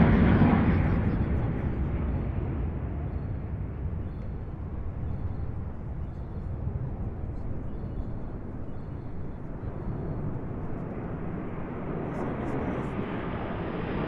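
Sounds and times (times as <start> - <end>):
jet engines rumbling in flyover: 0.0 - 14.0.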